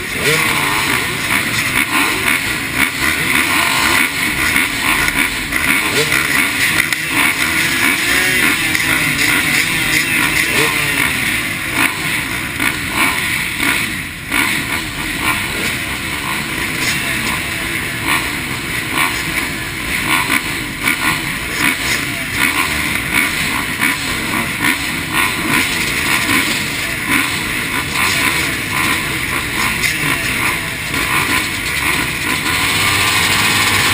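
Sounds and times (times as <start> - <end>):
motocross bikes revving: 0.0 - 33.9.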